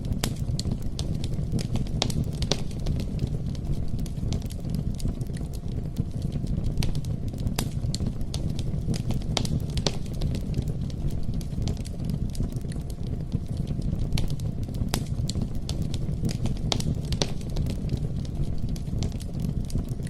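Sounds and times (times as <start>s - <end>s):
campfire crackling and popping: 0.0s - 20.0s
low rush of burning fire: 0.0s - 20.0s.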